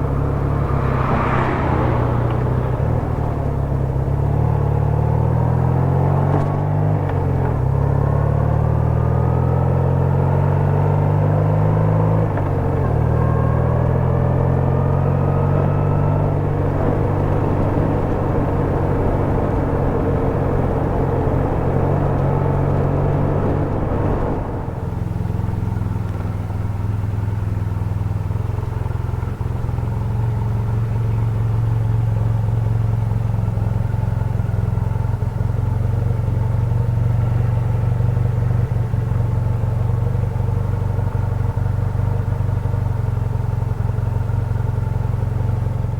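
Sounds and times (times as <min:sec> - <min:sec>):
motorcycle engine: 0:00.0 - 0:45.9.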